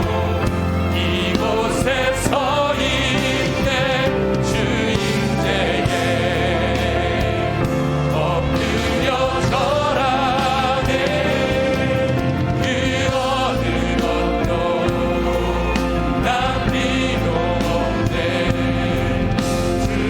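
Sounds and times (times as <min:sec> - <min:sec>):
singers with vibrato: 0:00.0 - 0:20.0
worship band playing: 0:00.0 - 0:20.0.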